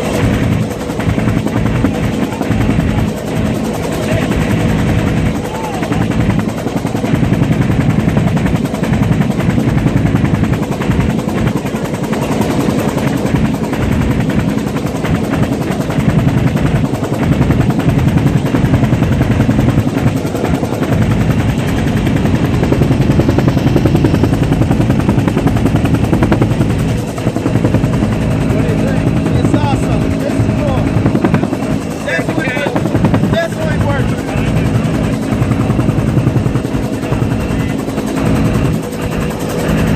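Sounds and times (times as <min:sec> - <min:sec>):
helicopter rotor blades thumping: 0:00.0 - 0:39.9.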